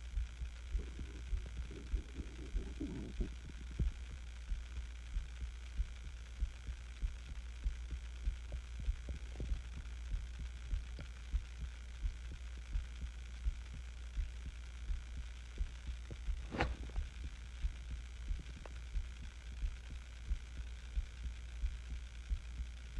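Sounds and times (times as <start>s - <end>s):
heartbeat: 0.0s - 22.9s.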